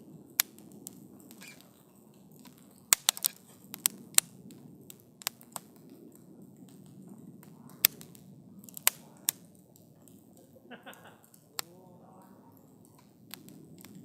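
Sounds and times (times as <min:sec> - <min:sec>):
low rush of flame: 0:00.0 - 0:14.0
wood fire popping and snapping: 0:00.0 - 0:14.0.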